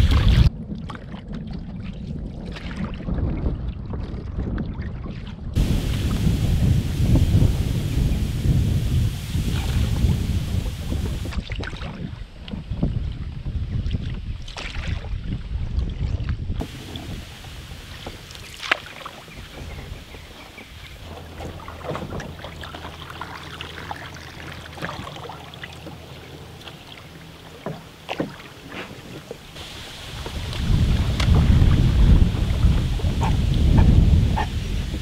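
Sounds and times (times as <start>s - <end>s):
paddle splashing in water: 0.0s - 1.8s, 5.0s - 12.5s, 13.8s - 35.0s
wind buffeting microphone: 0.0s - 35.0s.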